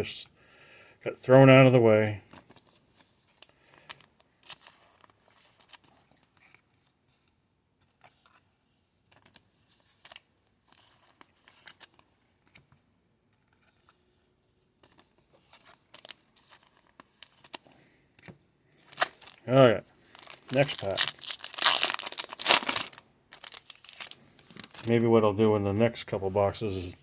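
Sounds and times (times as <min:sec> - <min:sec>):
trading cards and wrappers rustling: 0:02.2 - 0:12.8, 0:13.4 - 0:27.0.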